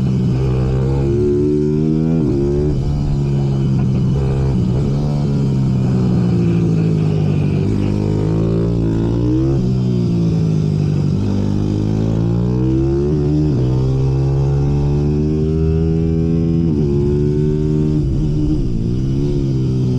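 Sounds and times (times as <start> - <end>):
racing minibike engines: 0.0 - 19.9.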